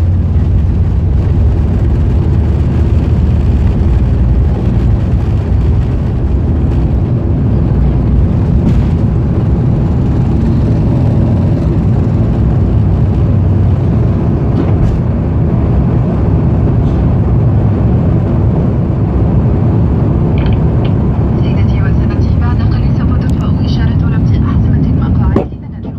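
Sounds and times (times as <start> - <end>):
jet engines rumbling in cabin: 0.0 - 25.9.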